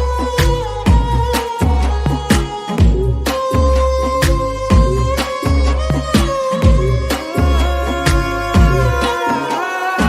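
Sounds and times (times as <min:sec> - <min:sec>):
deep bass: 0:00.0 - 0:09.3
steady drum beat: 0:00.0 - 0:10.0.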